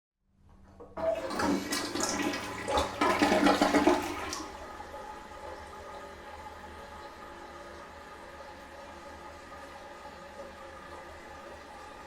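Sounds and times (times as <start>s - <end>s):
toilet flushing: 0.8s - 12.0s.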